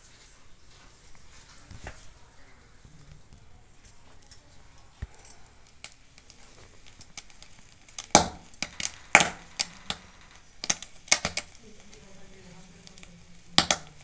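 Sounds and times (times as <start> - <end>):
charcoal fire crackling and popping: 1.0 - 14.0.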